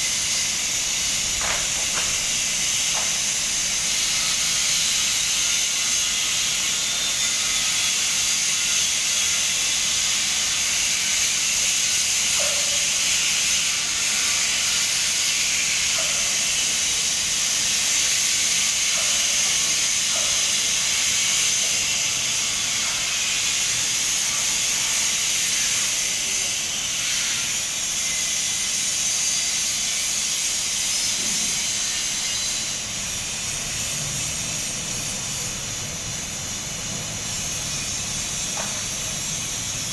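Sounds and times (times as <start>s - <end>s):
welding arc hissing: 0.0s - 39.9s.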